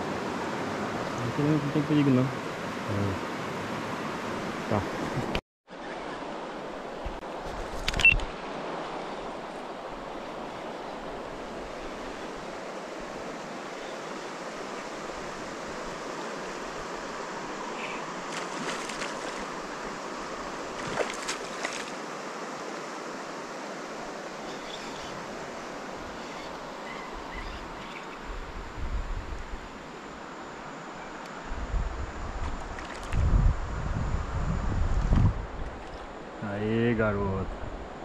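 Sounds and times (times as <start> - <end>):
river water flowing: 0.0 - 31.5, 35.4 - 36.4.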